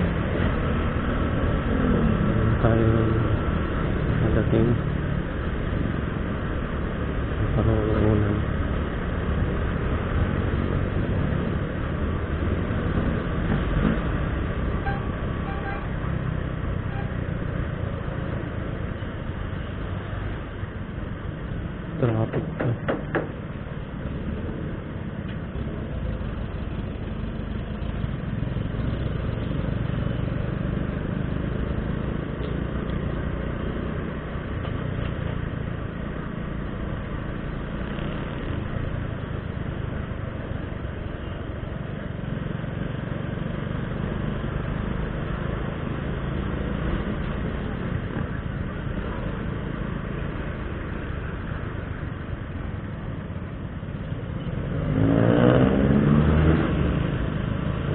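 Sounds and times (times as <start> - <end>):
road and wind noise: 0.0 - 57.9.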